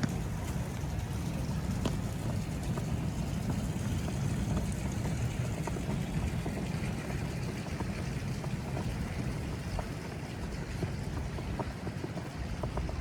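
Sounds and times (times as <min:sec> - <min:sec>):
distant traffic: 0:00.0 - 0:13.0
wind: 0:00.0 - 0:13.0.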